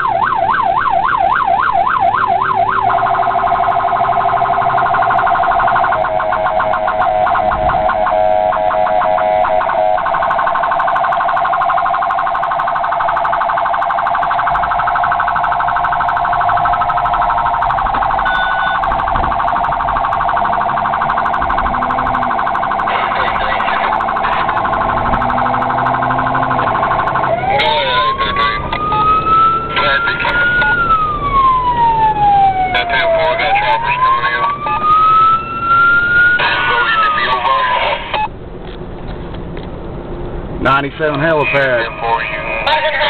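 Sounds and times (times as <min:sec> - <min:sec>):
electronic emergency siren: 0:00.0 - 0:38.3.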